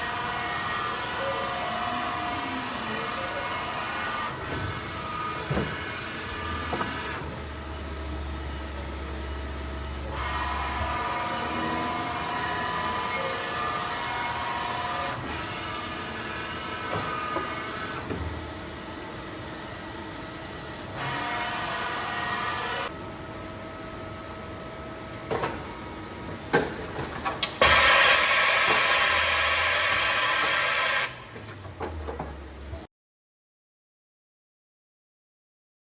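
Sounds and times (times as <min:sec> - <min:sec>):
machine whirring and hissing: 0:00.0 - 0:32.9.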